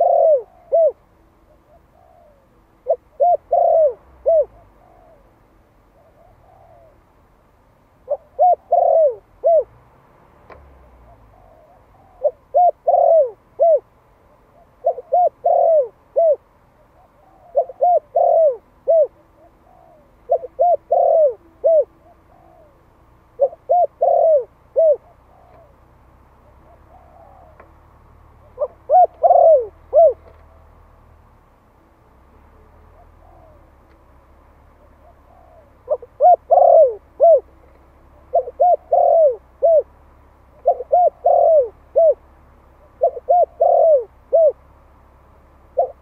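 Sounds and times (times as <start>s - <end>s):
dove cooing: 0.0s - 7.3s, 8.0s - 9.8s, 10.6s - 31.1s, 32.3s - 33.9s, 34.5s - 44.7s, 45.6s - 46.0s.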